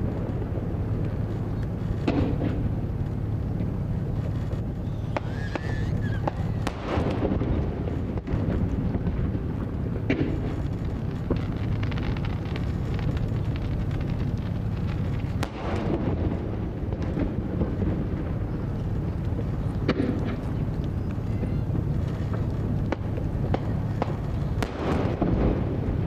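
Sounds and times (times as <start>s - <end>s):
fireworks booming: 0.0s - 26.0s
fireworks cracks: 0.0s - 26.0s.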